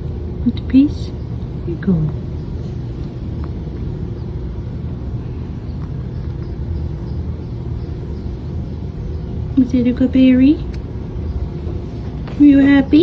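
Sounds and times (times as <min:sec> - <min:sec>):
faint steady hum: 0:00.0 - 0:13.0
low background rumble: 0:00.0 - 0:13.0.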